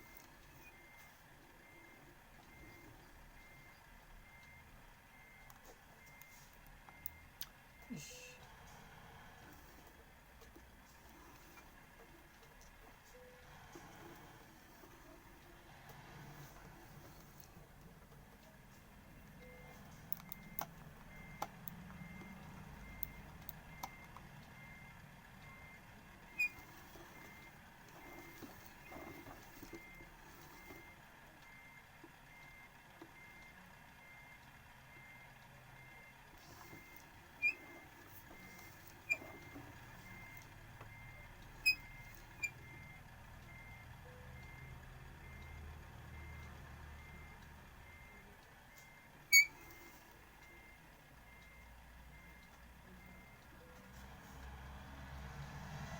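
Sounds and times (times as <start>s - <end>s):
car reversing warning beep: 0.0s - 9.8s, 13.0s - 15.6s, 18.3s - 54.5s.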